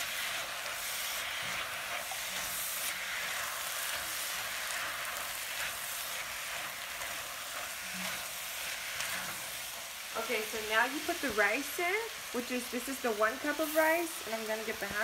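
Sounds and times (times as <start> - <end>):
spatula scraping and stirring: 0.0 - 15.0
vegetables sizzling in a pot: 0.0 - 15.0.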